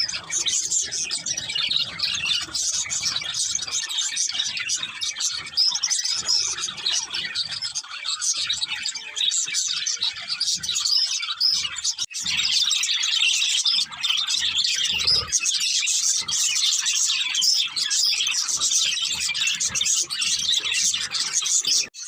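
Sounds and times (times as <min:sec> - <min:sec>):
budgerigars chirping: 0:00.0 - 0:21.9.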